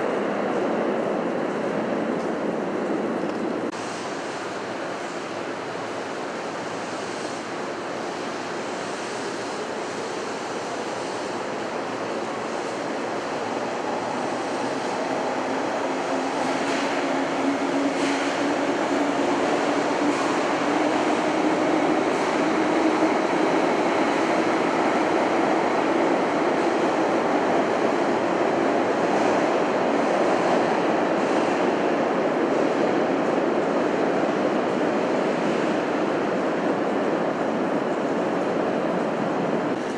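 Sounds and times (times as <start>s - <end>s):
electric train rumble: 0.0s - 39.9s.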